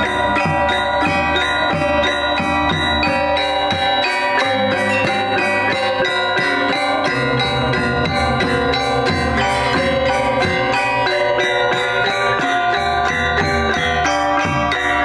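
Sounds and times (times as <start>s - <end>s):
drums: 0.0s - 15.0s
metallophones and gongs ringing: 0.0s - 15.0s.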